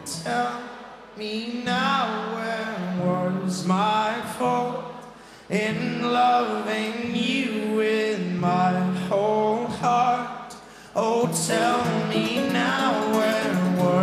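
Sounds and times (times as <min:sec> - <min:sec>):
man singing lead: 0:00.0 - 0:14.0.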